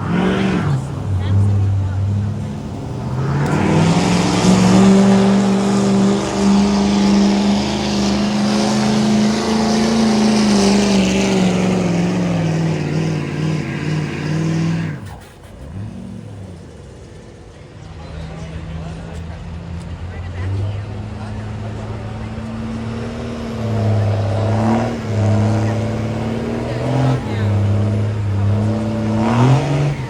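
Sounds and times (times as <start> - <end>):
engine revving hard: 0.0 - 17.3, 18.2 - 30.0.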